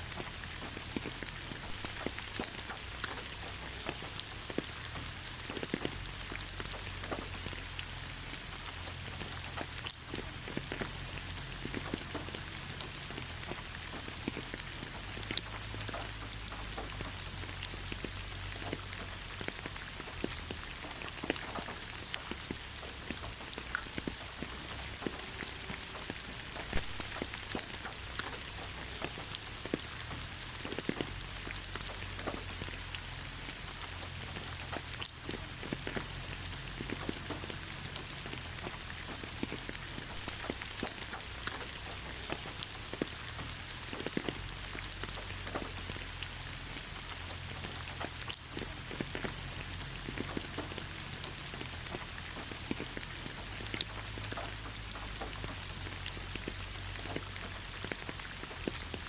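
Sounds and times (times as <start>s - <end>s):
rain hissing: 0.0s - 59.0s
raindrops ticking: 0.0s - 59.0s.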